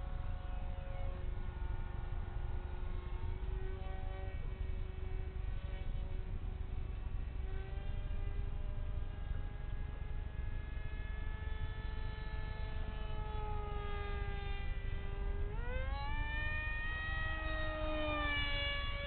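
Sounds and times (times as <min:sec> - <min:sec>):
model jet motor whining: 0:00.0 - 0:19.0.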